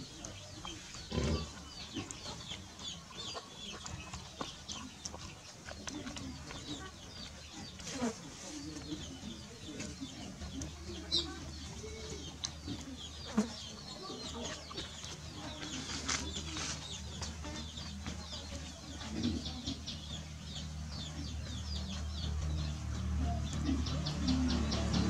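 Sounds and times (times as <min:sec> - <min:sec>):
chickens clucking: 0:00.0 - 0:25.0
small birds chirping: 0:00.0 - 0:25.0.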